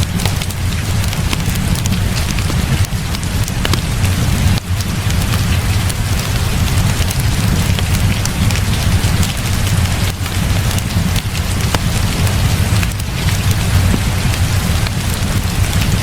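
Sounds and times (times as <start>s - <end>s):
heavy rain falling: 0.0s - 16.0s
wood fire crackling: 0.0s - 16.0s.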